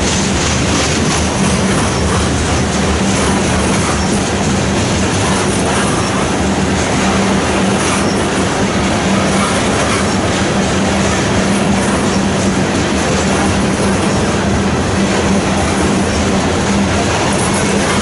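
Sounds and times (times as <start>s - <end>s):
steel wheels rumbling on rail: 0.0s - 18.0s.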